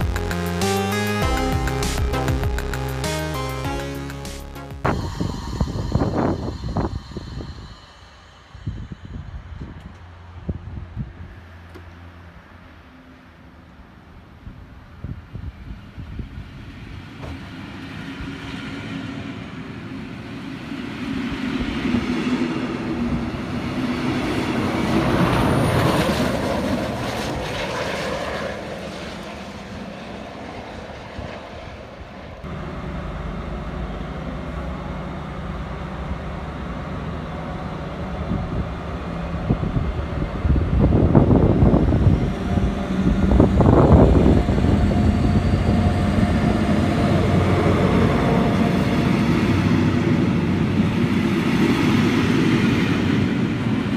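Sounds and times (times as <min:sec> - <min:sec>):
locomotive engine humming: 0:00.0 - 0:14.2, 0:16.4 - 0:53.9
train rail and running noise: 0:03.7 - 0:53.9.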